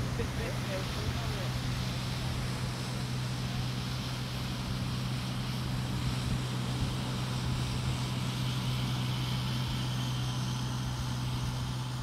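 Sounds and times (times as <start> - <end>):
tractor diesel engine humming: 0.0 - 12.0.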